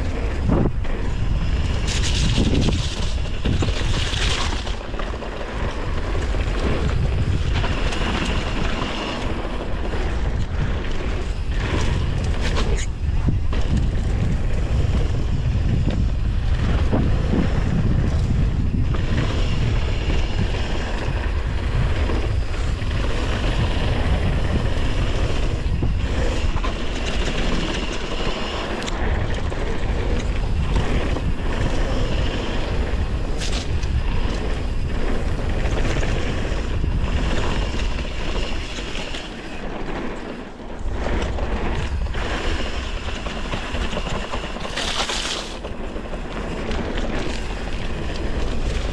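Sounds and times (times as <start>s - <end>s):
bike knocks and rattles: 0.0s - 48.9s
bike tyres on dirt: 0.0s - 48.9s
wind buffeting microphone: 0.0s - 48.9s.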